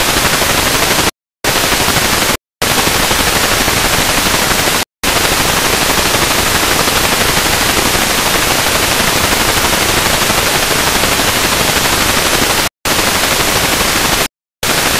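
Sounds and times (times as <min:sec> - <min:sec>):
tv static hiss: 0:00.0 - 0:14.9.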